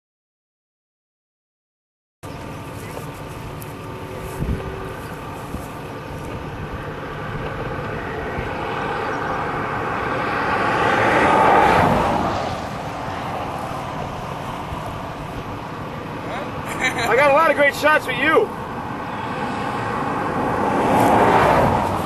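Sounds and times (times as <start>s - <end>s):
engine passing by: 2.2s - 22.0s.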